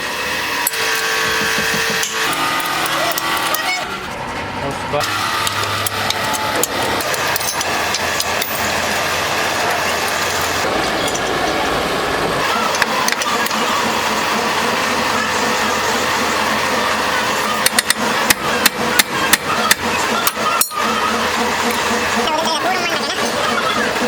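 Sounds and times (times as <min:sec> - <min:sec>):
machine running with low hum: 0:00.0 - 0:24.0.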